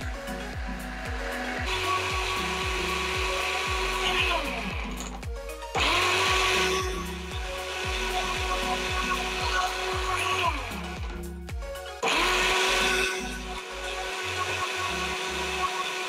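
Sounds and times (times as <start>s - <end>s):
kitchen blender running: 0.0s - 5.1s, 5.8s - 11.1s, 12.0s - 16.0s
music with steady beat: 0.0s - 16.0s.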